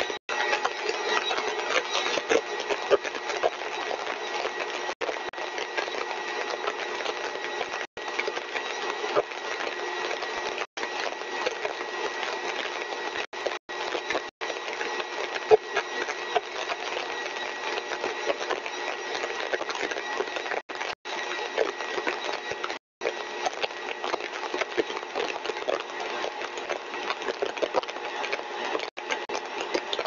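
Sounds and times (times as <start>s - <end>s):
compressor whirring with high whine: 0.0s - 30.0s.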